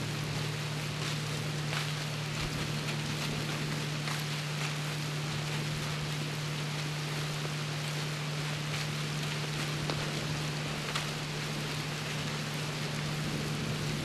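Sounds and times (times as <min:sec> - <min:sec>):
low steady hum: 0:00.0 - 0:14.0
sleet falling on dry leaves: 0:00.0 - 0:14.0.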